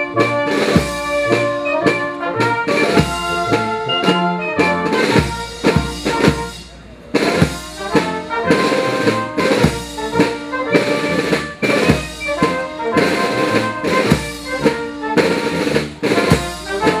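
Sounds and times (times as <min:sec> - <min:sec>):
marching brass band playing: 0:00.0 - 0:17.0.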